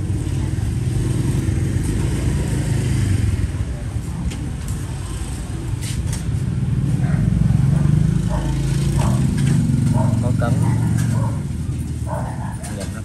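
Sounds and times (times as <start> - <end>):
road traffic engine rumble: 0.0 - 13.0.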